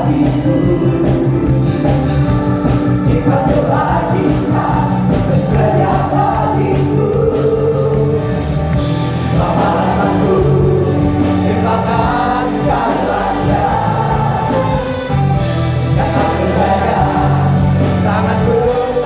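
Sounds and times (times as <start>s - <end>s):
choir singing: 0.0s - 19.0s
sustained instrumental accompaniment: 0.0s - 19.0s.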